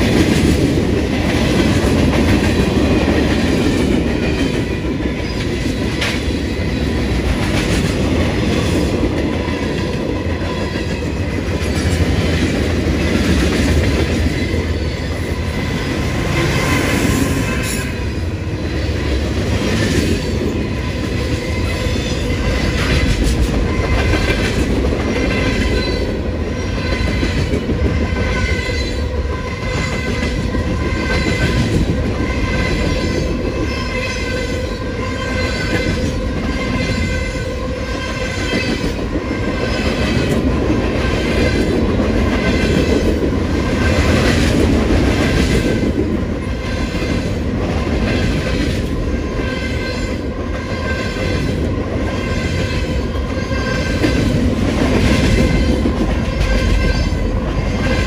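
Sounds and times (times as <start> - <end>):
steel wheels rumbling on rail: 0.0 - 58.0.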